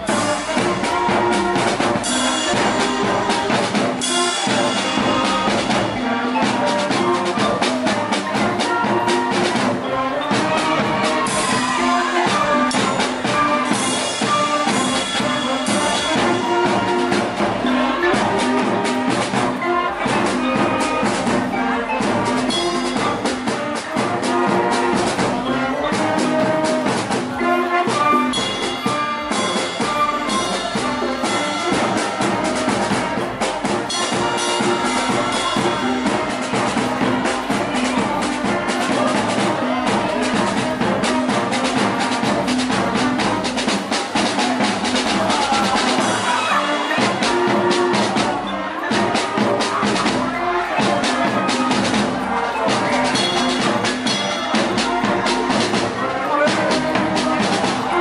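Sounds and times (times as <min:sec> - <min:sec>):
drum and cymbal strikes: 0:00.0 - 0:58.0
wind band playing: 0:00.0 - 0:58.0.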